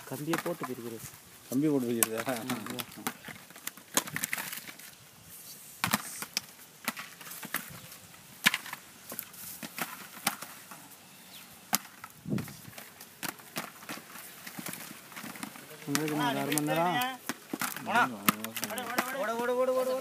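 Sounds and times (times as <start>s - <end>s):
coconuts knocking together: 0.0s - 4.9s, 5.8s - 10.8s, 11.6s - 20.0s.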